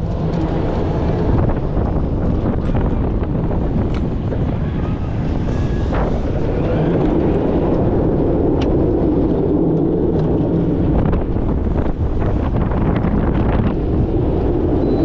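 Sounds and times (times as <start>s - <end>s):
hum: 0.0s - 15.0s
roller coaster wheels rumbling: 0.0s - 15.0s.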